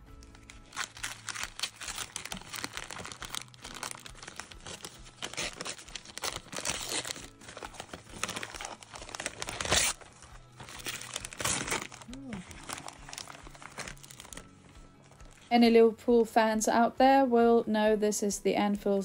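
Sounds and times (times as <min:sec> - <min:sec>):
wrapping paper tearing and crinkling: 0:00.0 - 0:15.5.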